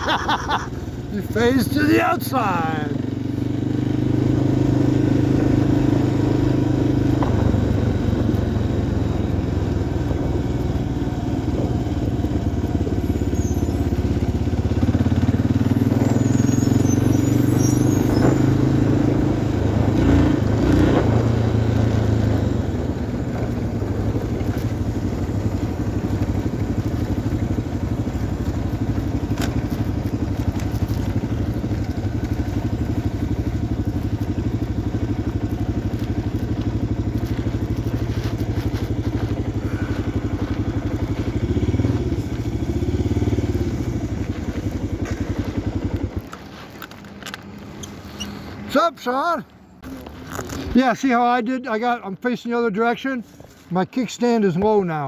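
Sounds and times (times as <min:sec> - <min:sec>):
motorcycle engine running: 0:00.0 - 0:48.7.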